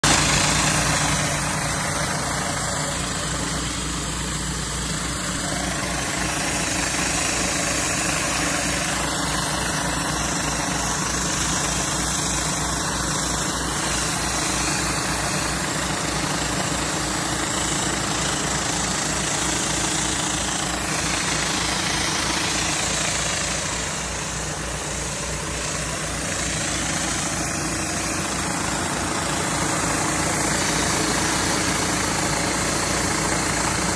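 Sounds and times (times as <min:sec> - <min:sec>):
hiss of high-pressure water jets: 0:00.0 - 0:33.9
pressure washer engine running: 0:00.0 - 0:33.9.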